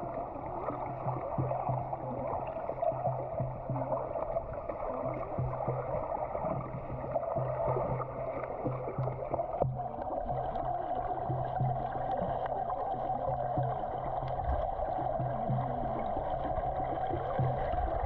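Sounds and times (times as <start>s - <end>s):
muffled rush of water: 0.0s - 18.0s
pulsing low hum: 0.0s - 18.0s.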